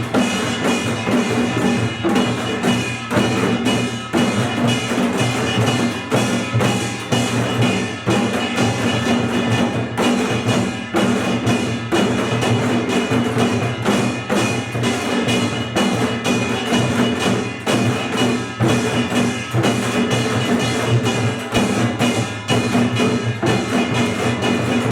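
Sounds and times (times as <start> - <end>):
percussion ensemble drumming: 0.0 - 24.9.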